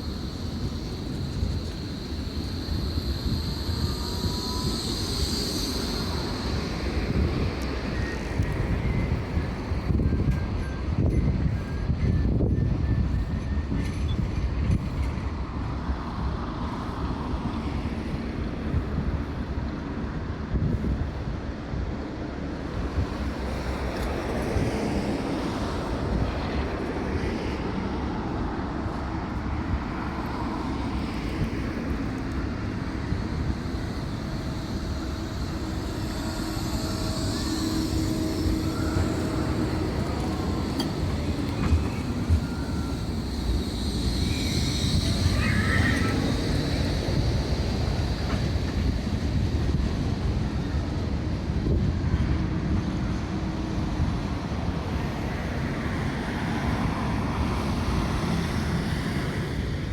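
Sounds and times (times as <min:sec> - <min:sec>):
tram rumbling on track: 0:00.0 - 0:59.9
wind buffeting microphone: 0:00.0 - 0:59.9.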